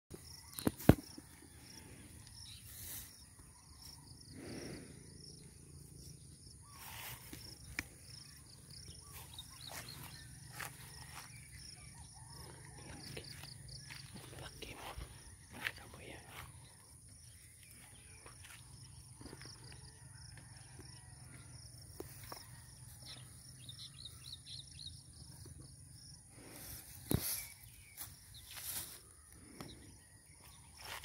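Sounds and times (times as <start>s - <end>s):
insects chirping: 0.1s - 31.0s.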